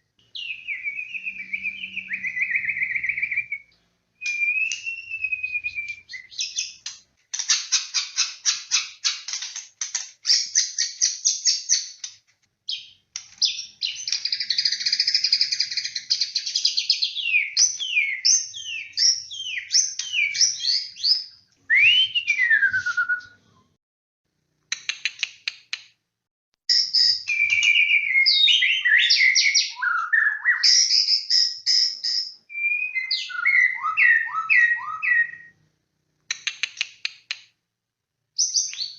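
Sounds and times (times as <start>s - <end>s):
bird singing varied song: 0.0s - 9.4s, 10.2s - 12.1s, 12.7s - 23.4s, 26.7s - 35.6s, 38.4s - 38.9s.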